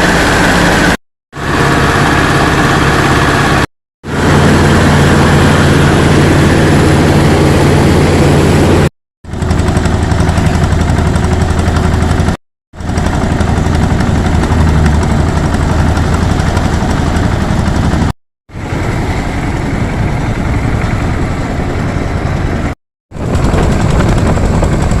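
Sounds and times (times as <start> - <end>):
rice mill engine droning: 0.0 - 12.2, 12.8 - 22.6.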